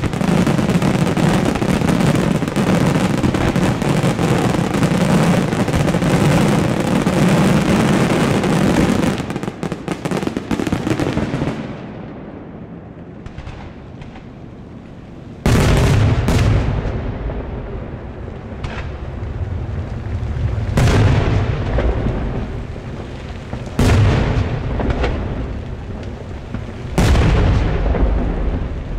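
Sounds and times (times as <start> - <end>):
fireworks barrage: 0.0 - 28.9
fireworks booms with rolling echo: 0.0 - 28.9.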